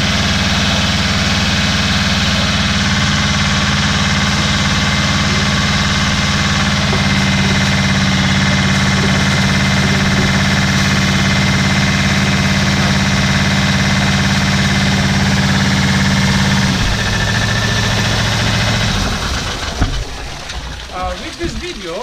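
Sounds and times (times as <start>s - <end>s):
small pump engine running: 0.0s - 22.0s
water jet splashing: 0.0s - 22.0s.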